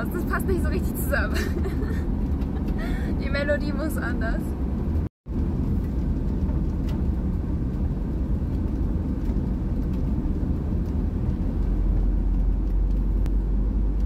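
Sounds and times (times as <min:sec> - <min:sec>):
van engine and road rumble: 0:00.0 - 0:14.0.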